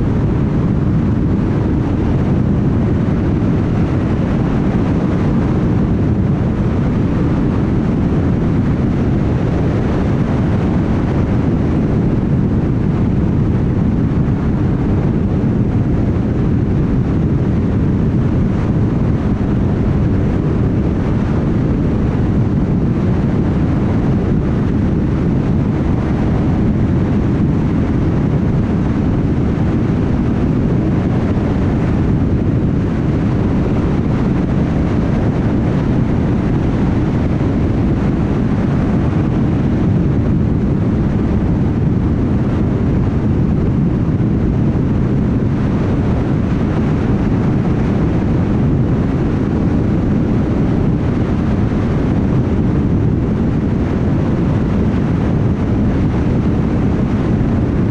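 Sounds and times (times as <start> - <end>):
tyre roar on road: 0.0 - 57.9
wind noise: 0.0 - 57.9.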